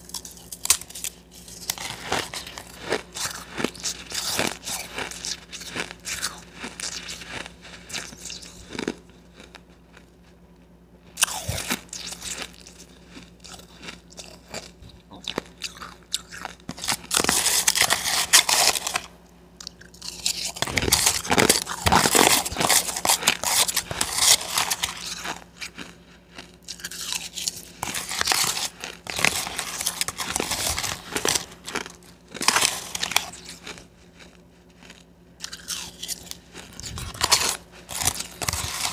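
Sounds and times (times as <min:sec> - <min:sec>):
crunching and chewing ice: 0:00.0 - 0:10.5, 0:11.1 - 0:38.9.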